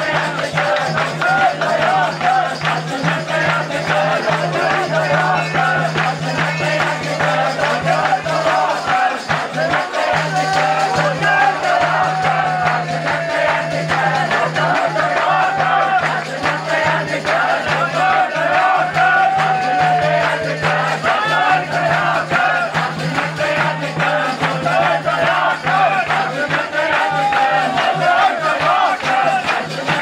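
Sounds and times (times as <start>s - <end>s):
crowd singing devotional song: 0.0s - 30.0s
hands clapping in time: 0.0s - 30.0s.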